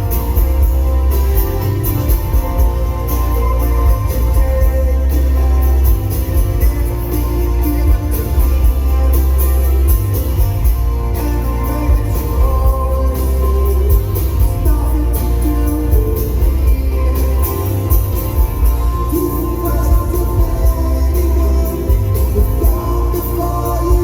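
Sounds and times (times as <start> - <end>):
live rock band playing slow song: 0.0 - 24.0.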